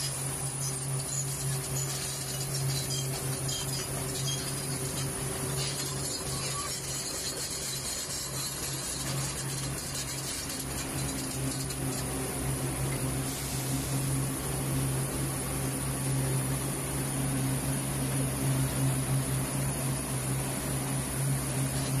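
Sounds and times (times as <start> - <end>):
machine drone with low hum: 0.0 - 22.0.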